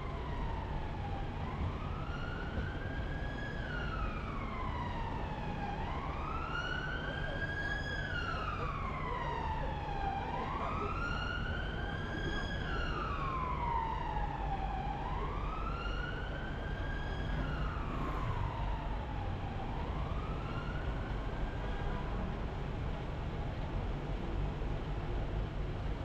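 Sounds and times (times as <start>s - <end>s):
car engine and tyres rumble: 0.0s - 26.0s
siren wailing: 0.2s - 21.9s.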